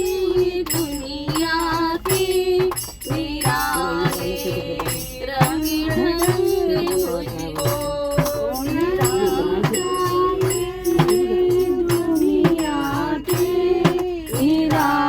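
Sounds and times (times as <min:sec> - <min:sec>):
people singing devotional song: 0:00.0 - 0:15.0
percussion strikes: 0:00.0 - 0:15.0.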